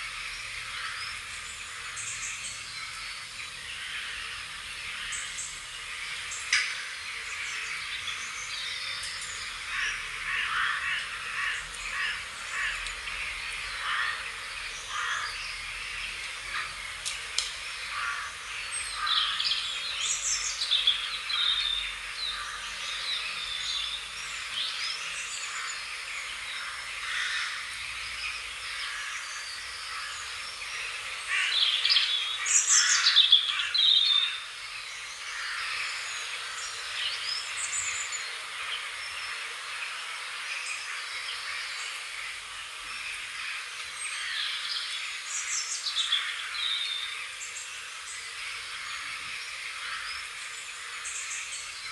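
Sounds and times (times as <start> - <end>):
birds singing and chirping: 0.0 - 51.9.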